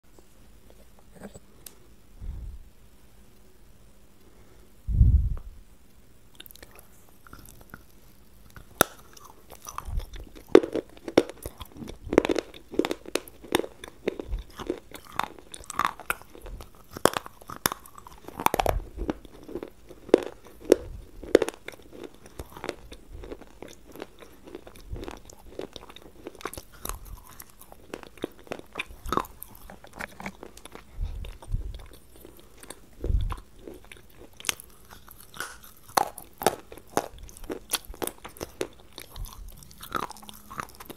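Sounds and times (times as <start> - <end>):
crunchy food chewing: 6.3 - 40.9.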